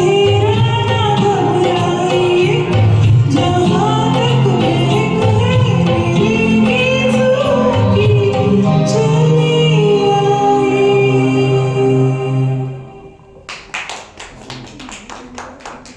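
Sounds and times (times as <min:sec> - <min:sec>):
woman singing: 0:00.0 - 0:13.0
karaoke backing track: 0:00.0 - 0:13.5.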